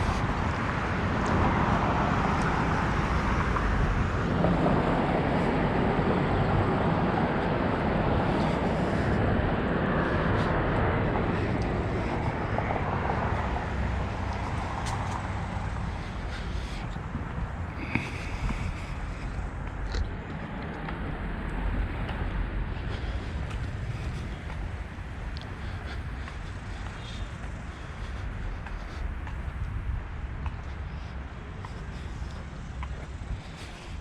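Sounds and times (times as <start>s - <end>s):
road traffic noise: 0.0s - 34.0s.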